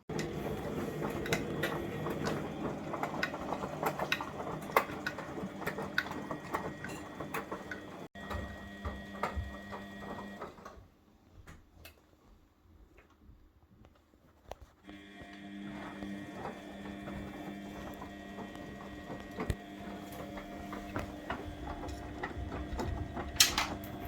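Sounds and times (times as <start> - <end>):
washing machine running: 0.0 - 11.5, 14.8 - 24.0.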